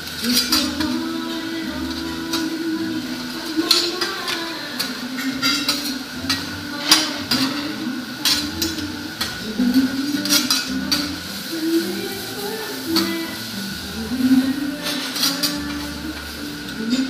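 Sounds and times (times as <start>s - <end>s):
metal spatulas scraping griddle: 0.0s - 17.0s.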